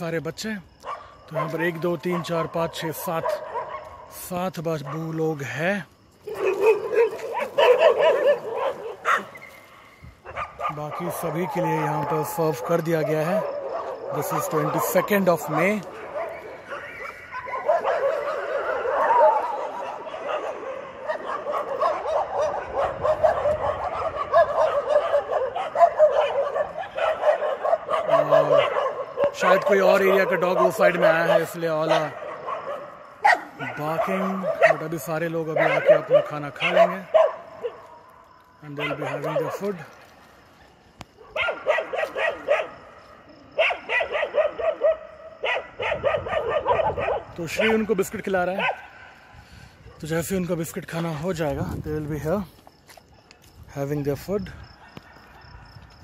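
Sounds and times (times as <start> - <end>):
dogs barking and yipping: 0.8 - 4.2, 4.8 - 5.4, 6.2 - 50.2, 54.7 - 56.0.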